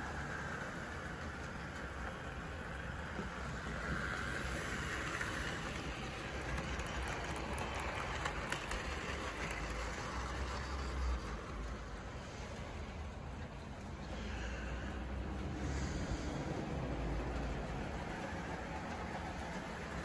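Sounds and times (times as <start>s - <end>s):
model train motor hum: 0.0s - 20.0s
model train wheel rumble: 0.0s - 20.0s.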